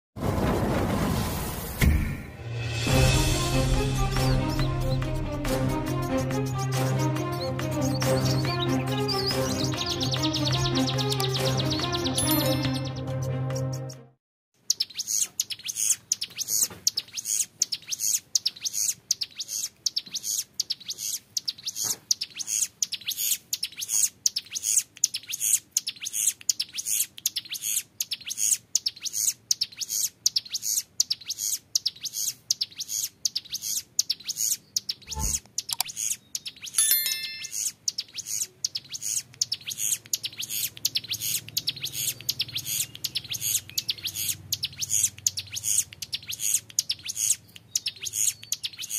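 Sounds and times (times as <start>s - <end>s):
bird singing rapid high notes: 2.9s - 5.2s, 5.9s - 13.4s, 14.6s - 48.9s.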